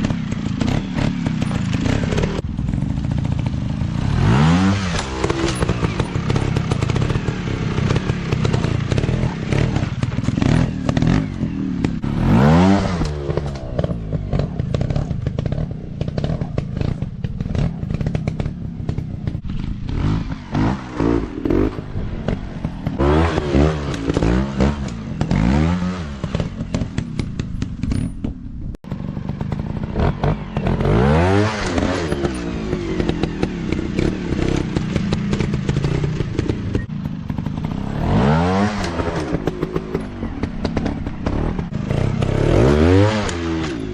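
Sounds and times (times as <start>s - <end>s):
dirt bike engines revving: 0.0s - 43.9s.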